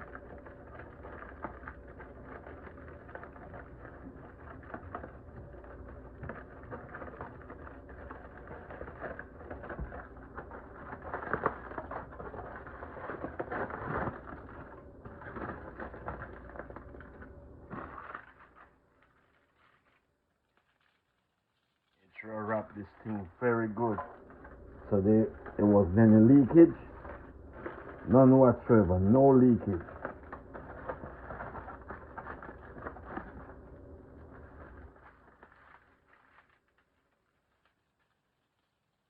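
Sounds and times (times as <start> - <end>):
foil and paper crinkling: 0.0 - 39.0.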